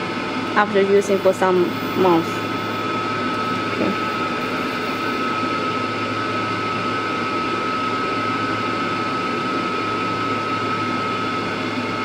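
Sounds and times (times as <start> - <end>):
fume extractor fan drone: 0.0 - 12.0
high whine: 0.0 - 12.0
laser engraving machine running: 0.0 - 12.0.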